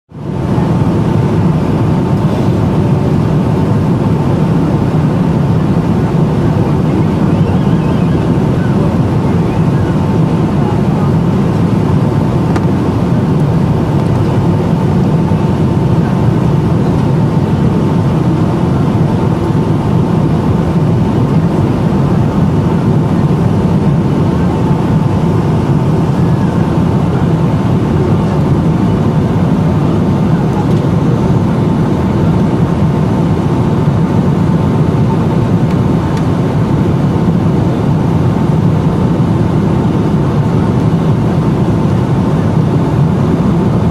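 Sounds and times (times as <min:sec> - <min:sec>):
airflow and engine drone: 0:00.1 - 0:43.9
faint steady whine: 0:00.2 - 0:43.9.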